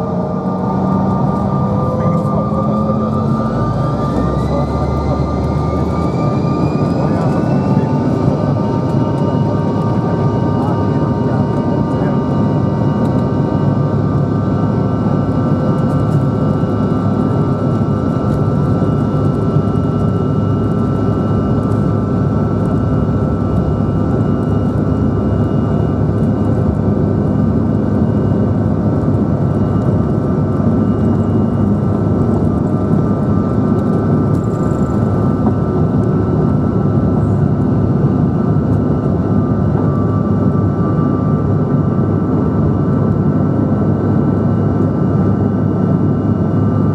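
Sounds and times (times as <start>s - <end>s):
jet engines at takeoff from cabin: 0.0s - 46.9s.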